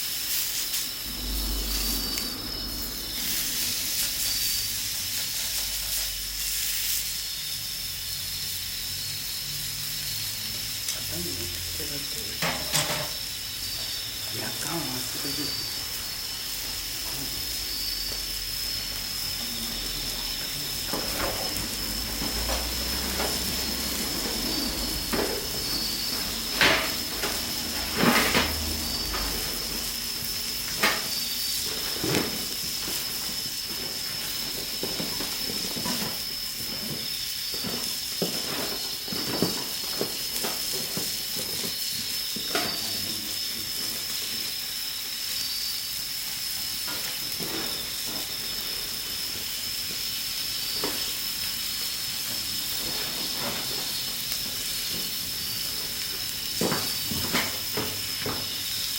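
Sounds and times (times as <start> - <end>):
pork sizzling in a pan: 0.0 - 58.9.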